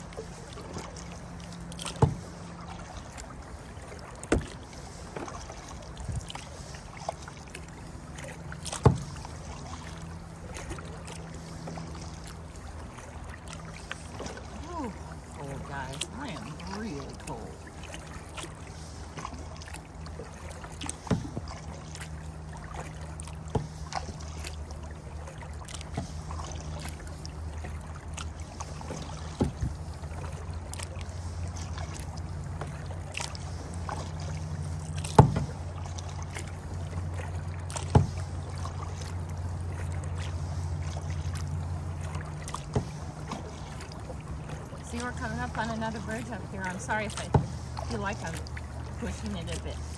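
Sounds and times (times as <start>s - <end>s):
kayak paddle splashes: 0.0s - 49.9s.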